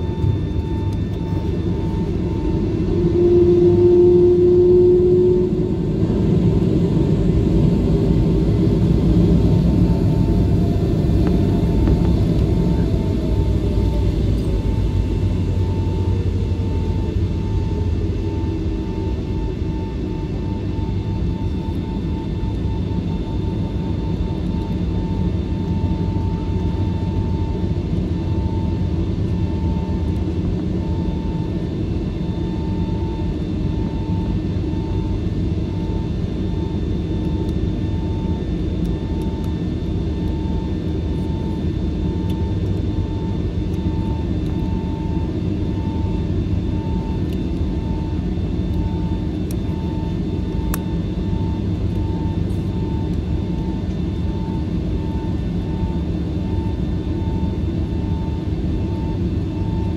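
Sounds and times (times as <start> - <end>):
jet engines low rumble: 0.0 - 59.9
pulsing faint whine: 0.0 - 59.9.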